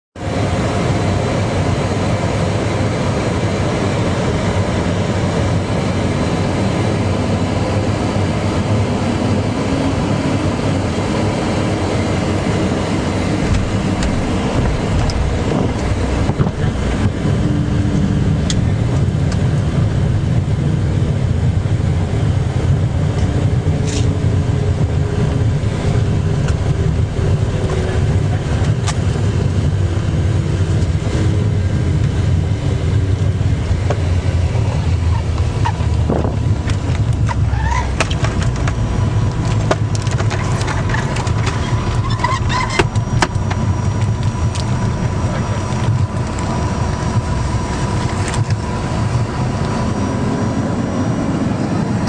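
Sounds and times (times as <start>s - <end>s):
jet engine and rushing air: 0.2s - 52.0s.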